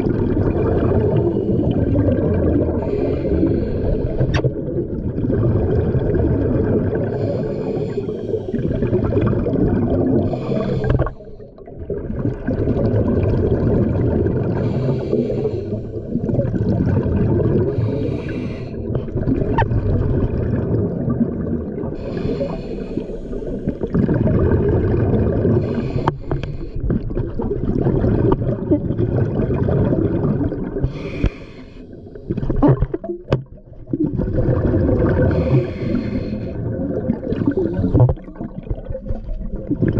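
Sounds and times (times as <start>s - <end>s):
underwater exhaled air bubbling: 0.0s - 39.9s.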